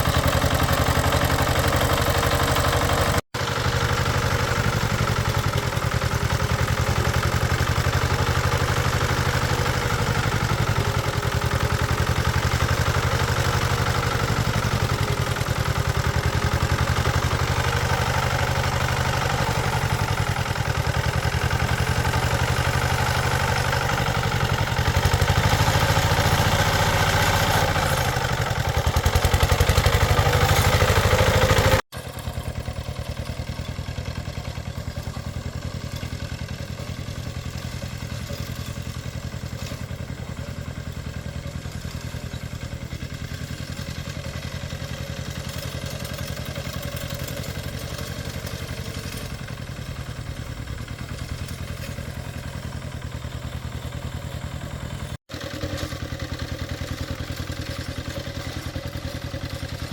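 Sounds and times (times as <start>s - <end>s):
small engine running: 0.0s - 59.9s.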